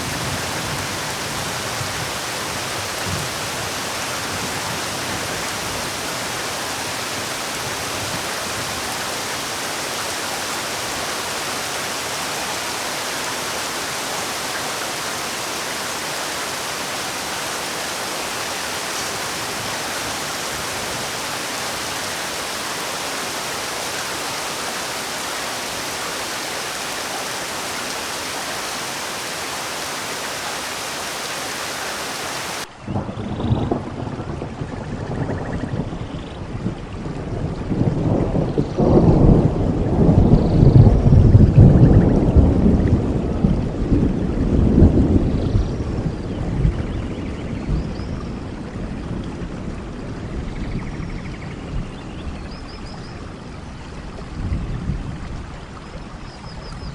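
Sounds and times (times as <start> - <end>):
heavy steady rainfall: 0.0 - 56.9.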